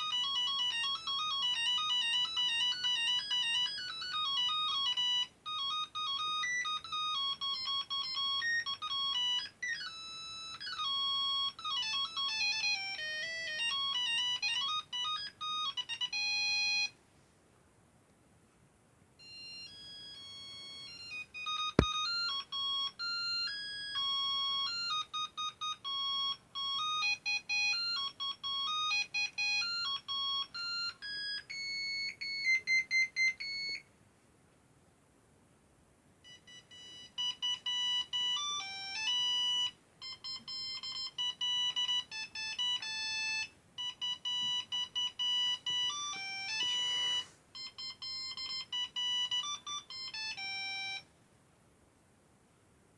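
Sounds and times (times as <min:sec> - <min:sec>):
mobile phone beeping ringtone: 0:00.0 - 0:17.0, 0:19.2 - 0:33.9, 0:36.2 - 0:51.1.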